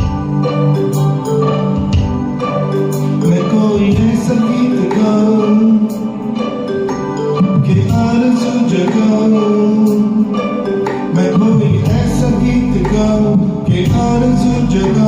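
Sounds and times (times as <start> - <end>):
film song accompaniment: 0.0 - 15.0.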